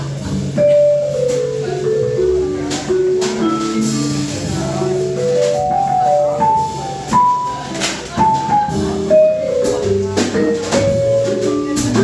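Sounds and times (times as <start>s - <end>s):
bass: 0.0s - 12.0s
drums: 0.0s - 12.0s
jazz melodic line: 0.0s - 12.0s.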